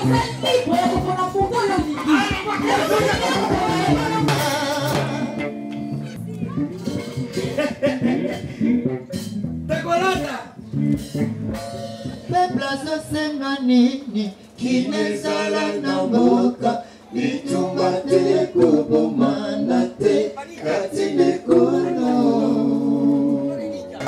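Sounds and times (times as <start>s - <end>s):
singing voices: 0.0s - 9.6s, 12.2s - 24.0s.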